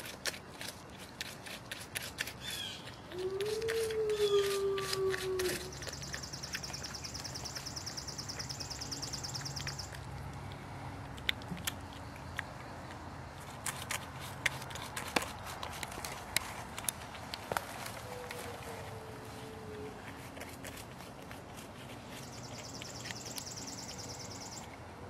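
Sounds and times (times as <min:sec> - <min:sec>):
porcupine eating: 0:00.0 - 0:24.8.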